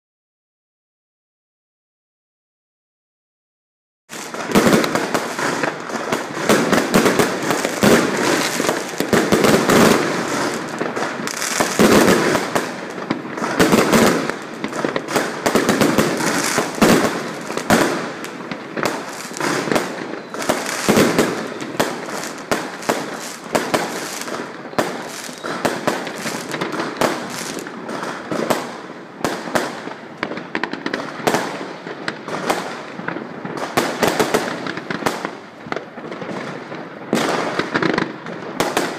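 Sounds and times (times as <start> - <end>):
fireworks bangs and crackling: 4.1 - 38.9.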